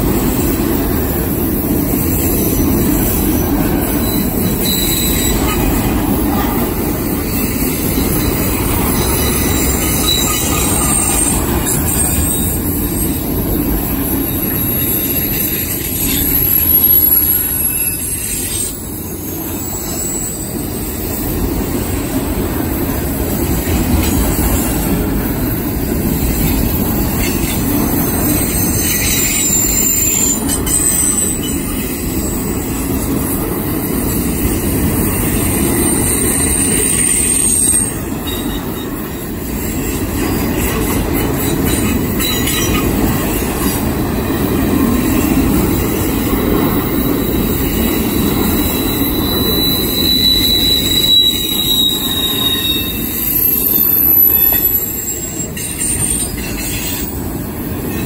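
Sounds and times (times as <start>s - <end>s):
steel wheels rumbling on rails: 0.0s - 58.0s
high wheel squeals: 1.7s - 13.3s, 13.9s - 21.6s, 25.4s - 32.8s, 33.8s - 43.4s, 46.8s - 57.3s.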